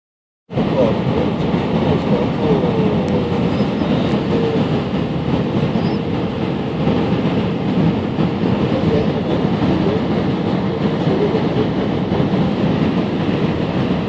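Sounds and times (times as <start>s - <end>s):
jet engines humming: 0.5s - 14.0s.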